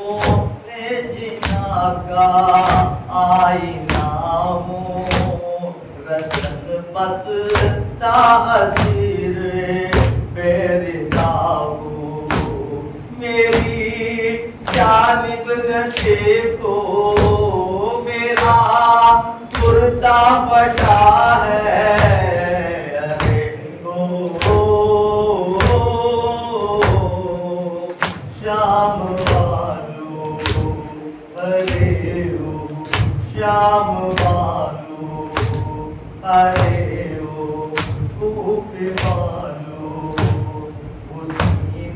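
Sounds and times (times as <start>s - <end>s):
man chanting a lament: 0.0s - 41.9s.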